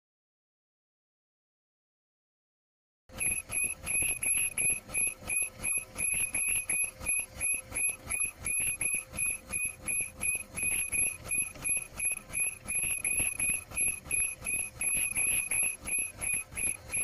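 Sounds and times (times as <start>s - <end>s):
pulsing high-pitched whistle: 3.2s - 17.0s.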